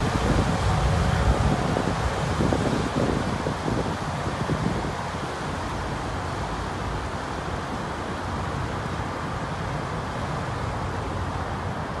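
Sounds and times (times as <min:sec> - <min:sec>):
paddlewheel churning water: 0:00.0 - 0:12.0.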